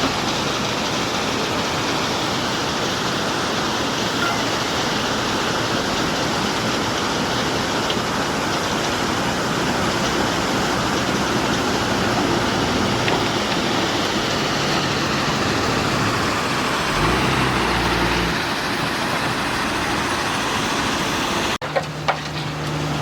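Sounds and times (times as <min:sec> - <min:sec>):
heavy machinery diesel engine: 0:00.0 - 0:23.0
low engine hum: 0:04.2 - 0:23.0.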